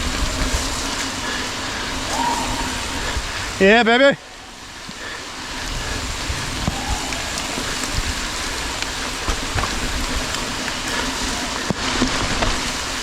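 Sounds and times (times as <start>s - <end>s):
bike knocking and rattling: 0.0s - 2.2s, 4.6s - 13.0s
rain rushing: 0.0s - 13.0s
tyre noise: 0.0s - 13.0s
wind noise: 0.0s - 13.0s.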